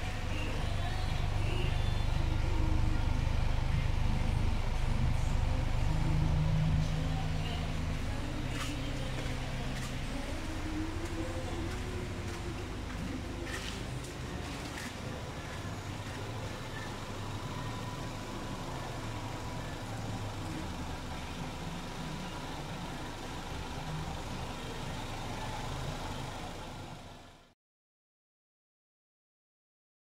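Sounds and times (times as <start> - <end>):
car engine idling: 0.0 - 27.5.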